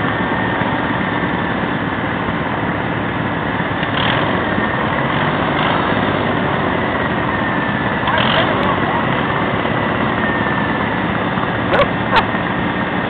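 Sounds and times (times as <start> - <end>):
small tractor engine running: 0.0 - 13.0.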